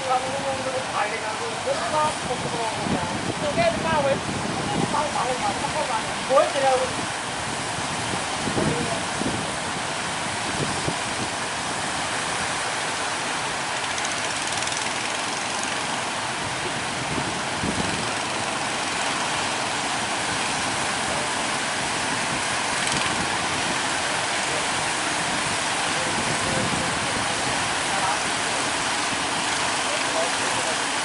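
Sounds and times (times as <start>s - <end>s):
roar of large surf breaking: 1.6s - 31.0s.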